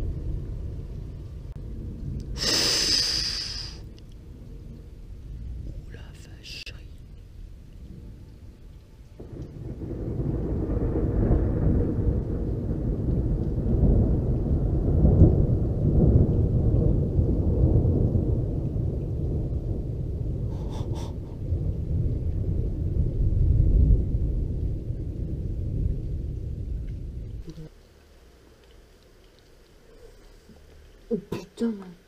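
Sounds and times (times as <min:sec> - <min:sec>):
rolling thunder: 0:00.0 - 0:27.5.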